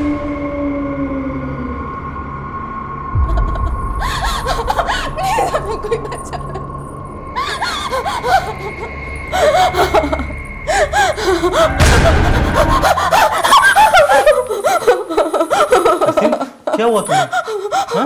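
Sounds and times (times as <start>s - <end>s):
woman sobbing and wailing: 3.1s - 18.0s.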